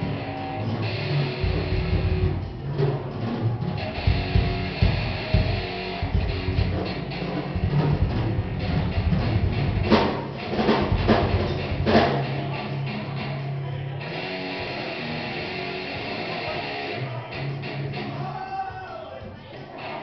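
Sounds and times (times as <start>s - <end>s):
distorted guitar chord ringing: 0.0s - 18.3s
drum kit: 0.0s - 19.0s
electric guitar: 0.0s - 20.0s.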